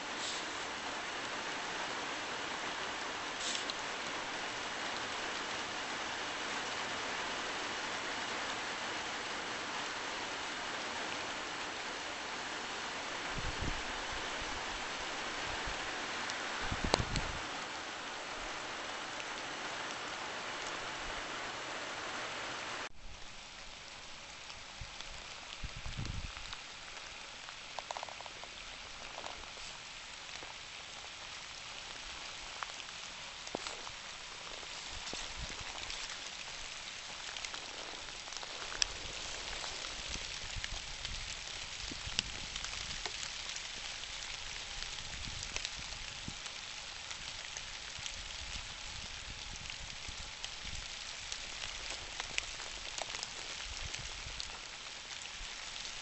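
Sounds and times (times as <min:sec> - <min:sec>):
rain on leaves and branches: 0:00.0 - 0:56.0.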